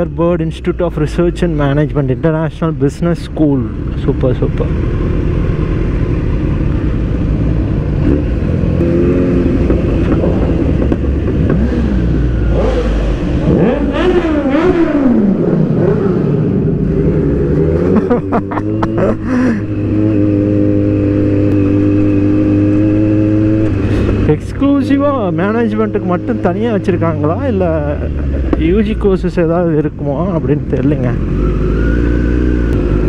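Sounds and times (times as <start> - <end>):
motorcycle engine: 3.6 - 33.0.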